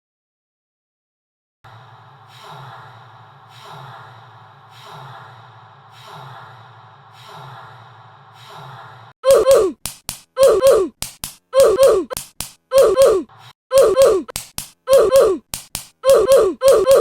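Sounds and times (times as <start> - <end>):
slow rhythmic breathing: 1.9 - 17.0.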